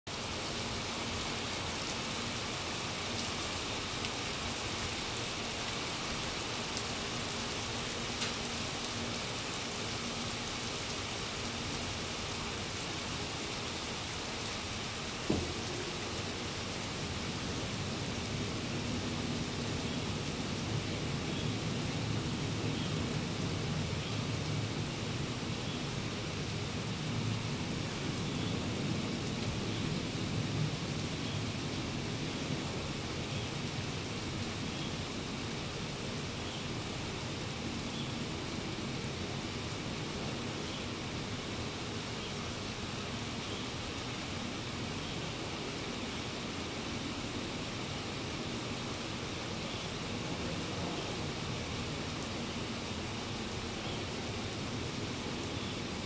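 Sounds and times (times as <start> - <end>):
steady rain falling: 0.1 - 56.0.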